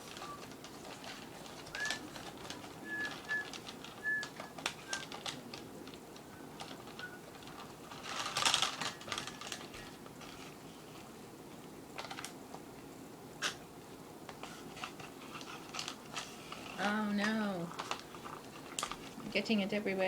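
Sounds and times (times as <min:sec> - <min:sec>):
reeds crackling and rustling: 0:00.0 - 0:11.1, 0:14.5 - 0:20.0.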